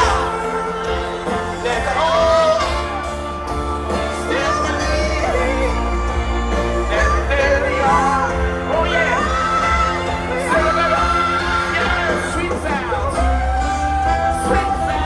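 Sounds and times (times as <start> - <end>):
lead singer holding notes: 0.0 - 15.0
live band playing rock song: 0.0 - 15.0
steady bass line: 0.0 - 15.0.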